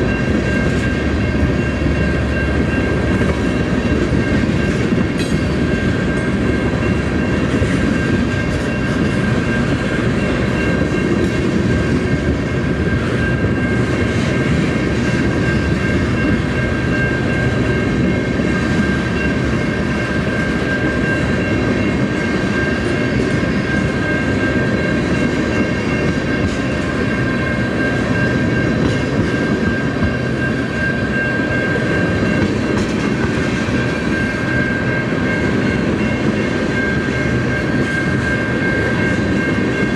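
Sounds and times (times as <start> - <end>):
high-pitched steady tone: 0.0 - 39.9
train wheels clattering on rails: 0.0 - 39.9.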